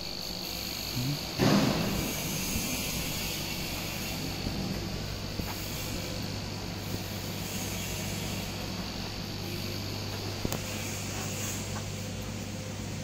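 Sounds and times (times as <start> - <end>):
laser cutter hissing and whining: 0.0 - 13.0
machine noise: 0.0 - 13.0.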